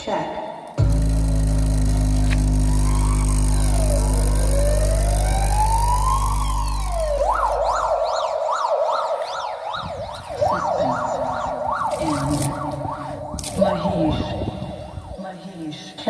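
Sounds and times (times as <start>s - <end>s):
deep bass drone: 0.7s - 8.6s, 9.6s - 15.2s
slow rising tone: 0.8s - 15.2s
siren wail: 0.8s - 16.0s.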